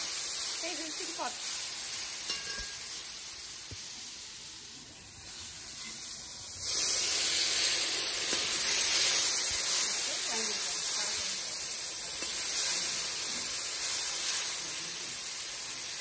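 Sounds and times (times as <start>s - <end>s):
curry frying and hissing: 0.0s - 16.0s.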